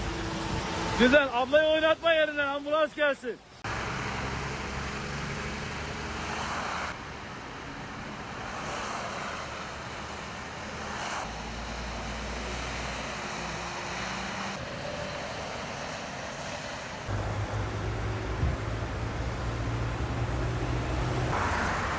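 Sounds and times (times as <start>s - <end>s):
motorway traffic: 0.0s - 21.9s.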